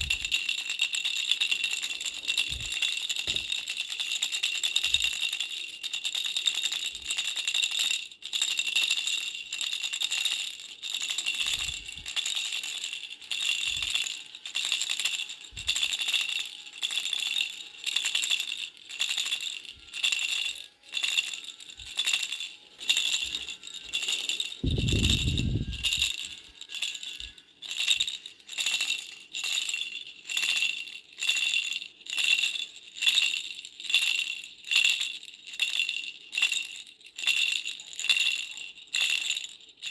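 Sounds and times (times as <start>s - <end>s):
baby rattle bells jingling: 0.0s - 39.9s.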